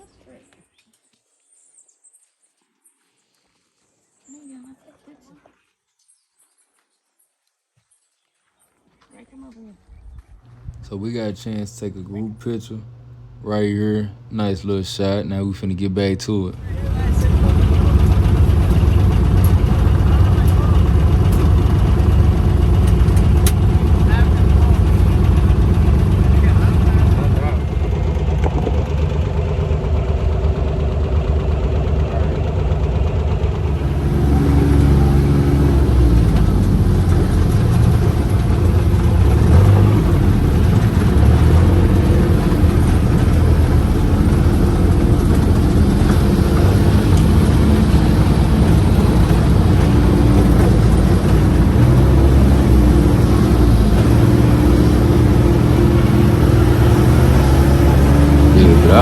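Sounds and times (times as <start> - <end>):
vehicle engine driving: 10.3 - 59.0.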